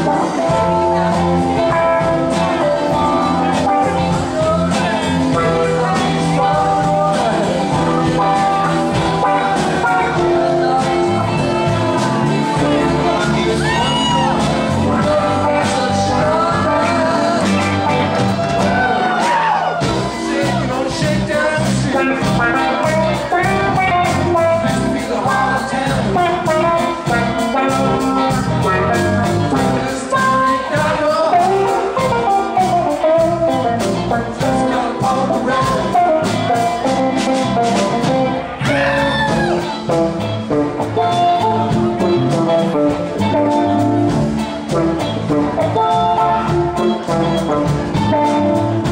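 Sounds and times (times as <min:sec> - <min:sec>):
bending lead guitar line: 0:00.0 - 0:48.9
rock band playing: 0:00.0 - 0:48.9
steady drum beat: 0:00.0 - 0:48.9.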